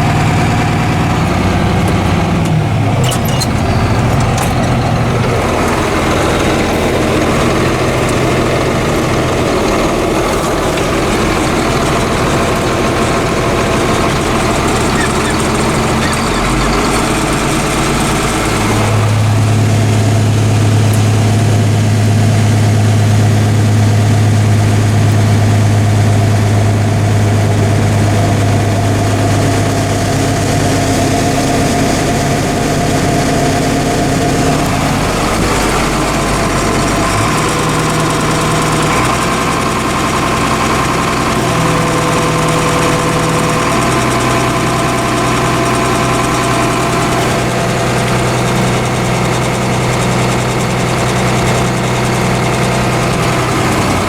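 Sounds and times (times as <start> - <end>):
farm machinery engine running: 0.0 - 54.0.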